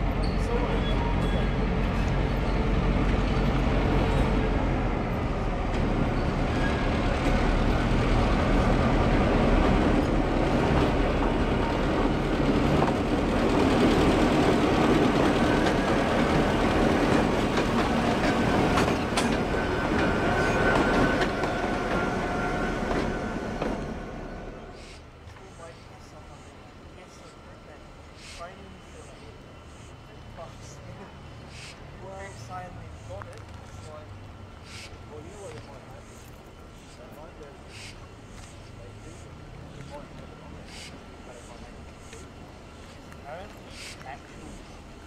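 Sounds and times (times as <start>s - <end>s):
diesel locomotives passing: 0.0s - 45.0s.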